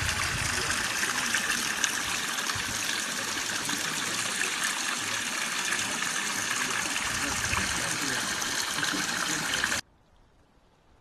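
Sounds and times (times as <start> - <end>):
rushing mountain stream water: 0.0 - 9.8.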